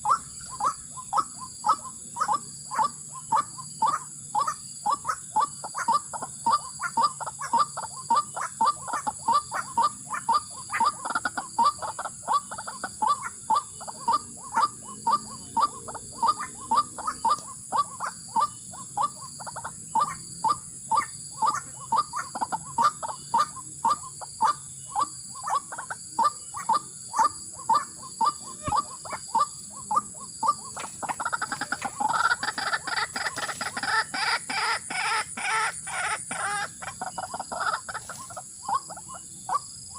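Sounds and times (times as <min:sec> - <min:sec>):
fast high-pitched bird calling: 0:00.0 - 0:39.7.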